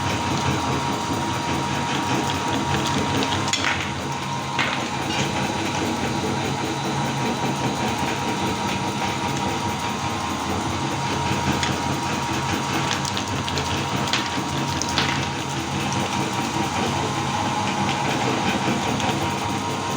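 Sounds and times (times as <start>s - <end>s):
electric meat grinder running: 0.0s - 19.9s.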